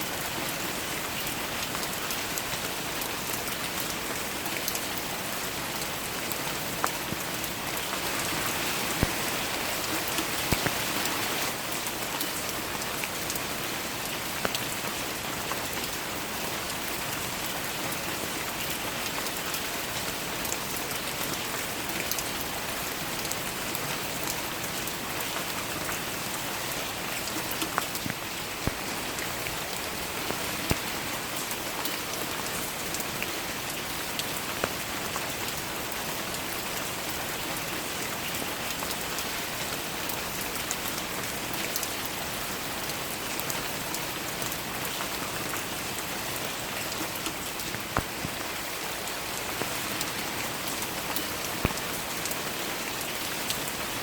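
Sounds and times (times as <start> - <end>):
steady rain hiss: 0.0 - 54.0
raindrops ticking close by: 0.1 - 54.0.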